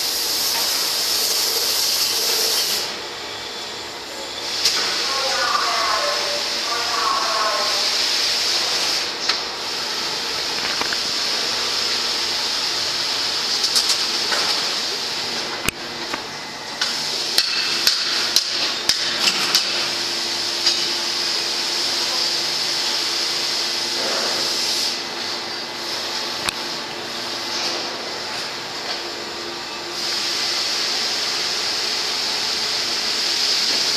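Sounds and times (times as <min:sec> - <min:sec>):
machine hissing: 0:00.0 - 0:15.7, 0:16.8 - 0:28.0, 0:29.9 - 0:33.9.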